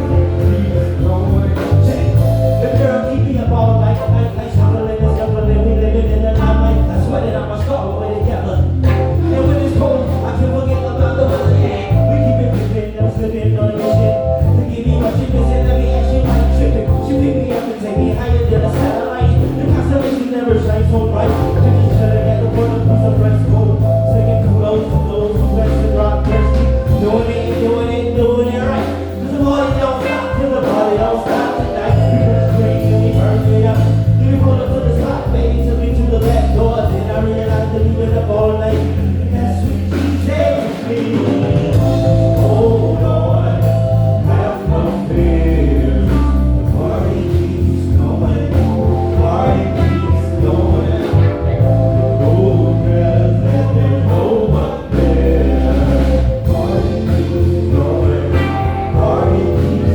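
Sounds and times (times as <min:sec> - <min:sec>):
wavering lead line: 0:00.0 - 0:39.0, 0:41.2 - 0:59.9
drum kit beat: 0:00.0 - 0:59.9
electric bass: 0:00.0 - 0:59.9.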